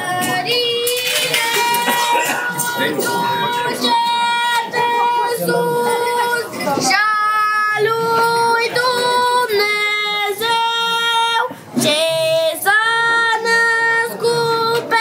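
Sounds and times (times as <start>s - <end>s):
high voices singing a carol: 0.0s - 15.0s.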